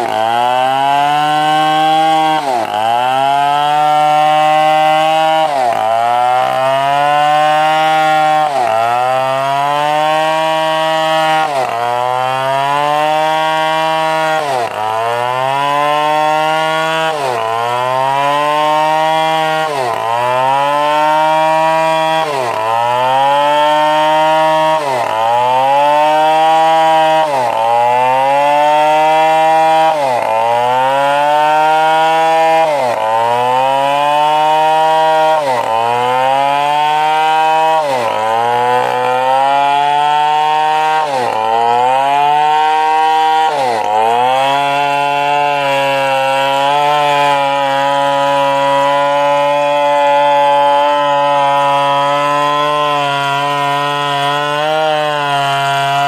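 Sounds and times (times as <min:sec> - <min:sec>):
chainsaw bogging under load: 0:00.0 - 0:56.0.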